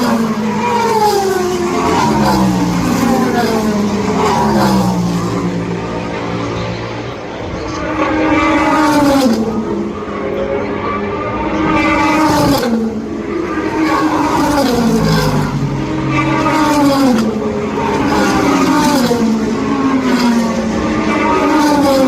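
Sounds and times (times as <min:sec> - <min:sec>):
race cars passing: 0:00.0 - 0:22.0.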